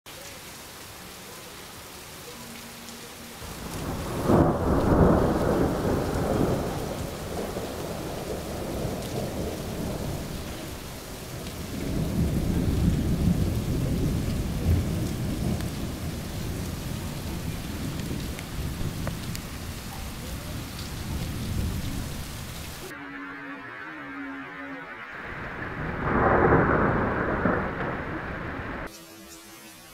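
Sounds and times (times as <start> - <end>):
steady rain: 0.0 - 29.9
thunder rumbling: 3.4 - 28.9.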